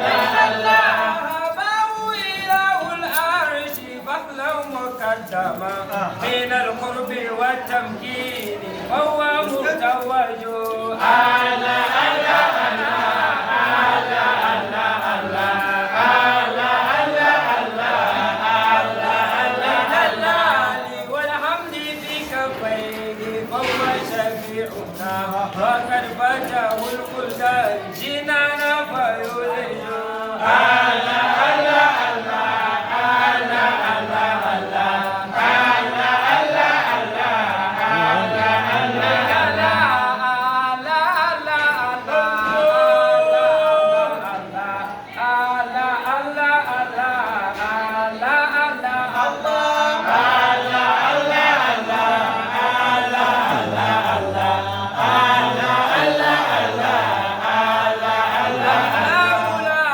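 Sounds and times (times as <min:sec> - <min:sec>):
group chanting religious praise: 0:00.0 - 0:59.9.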